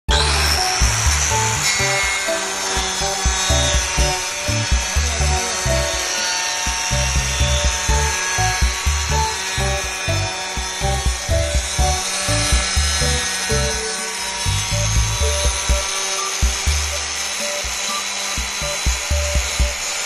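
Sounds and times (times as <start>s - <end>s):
background music with beat: 0.1s - 20.0s
electric tile cutter grinding: 0.1s - 20.0s.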